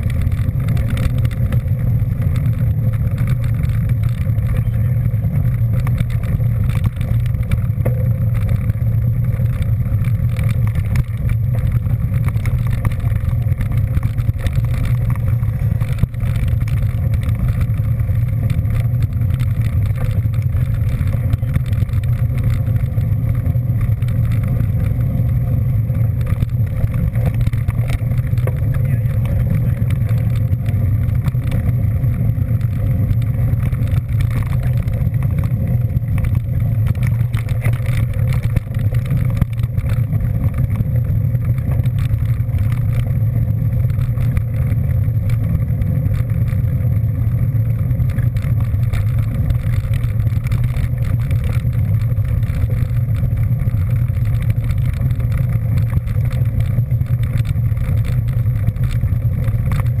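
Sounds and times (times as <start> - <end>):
road and wind noise: 0.0 - 60.0
vehicle engine droning: 0.0 - 60.0.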